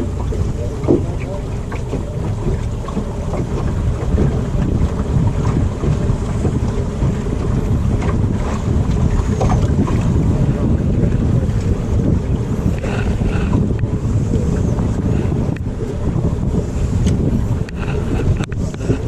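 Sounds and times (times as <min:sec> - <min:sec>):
water washing around boat: 0:00.0 - 0:19.0
wind buffeting microphone: 0:00.0 - 0:19.0.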